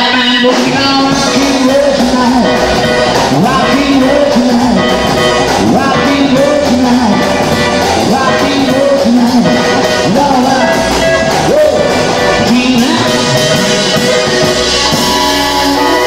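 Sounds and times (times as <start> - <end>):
rock band playing live: 0.0 - 16.0
short repeating pitched phrase: 0.0 - 16.0.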